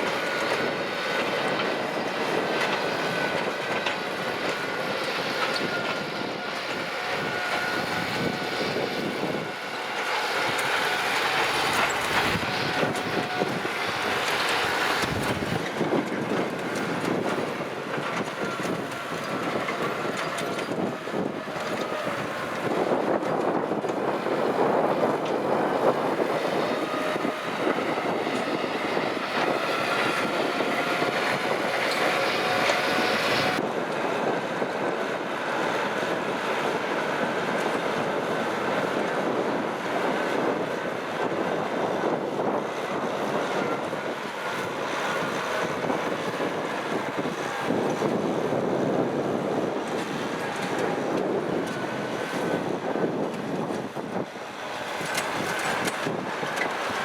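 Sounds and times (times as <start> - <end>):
tractor engine running: 0.0 - 33.7, 34.6 - 57.0.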